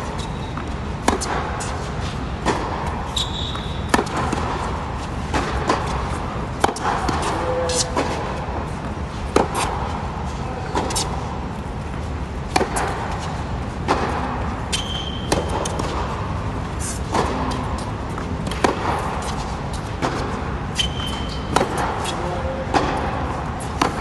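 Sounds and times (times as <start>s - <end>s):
shoe squeaking on court: 0.0s - 11.2s, 14.2s - 24.0s
ball bouncing on hard court: 0.0s - 24.0s
tennis racquets hitting ball: 0.0s - 24.0s.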